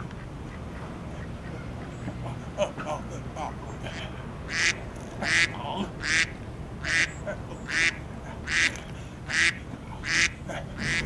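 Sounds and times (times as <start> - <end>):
duck quacking: 0.0 - 11.0.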